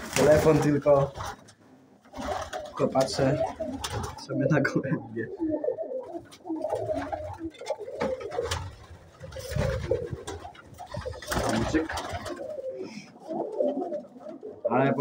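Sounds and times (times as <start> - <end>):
wing flapping: 0.0 - 4.3, 5.3 - 14.7
pigeons cooing: 2.1 - 15.0.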